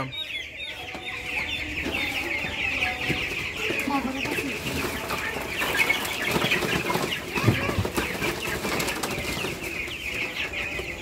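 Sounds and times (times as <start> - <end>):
chicks flapping and scrambling: 0.0 - 11.0
chicks peeping: 0.0 - 11.0.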